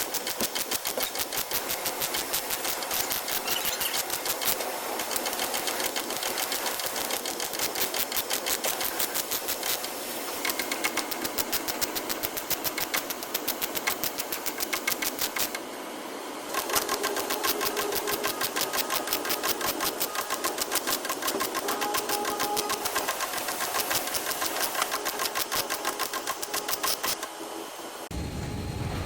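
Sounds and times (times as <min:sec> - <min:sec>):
power tool rapid strokes: 0:00.0 - 0:15.6, 0:16.5 - 0:27.3.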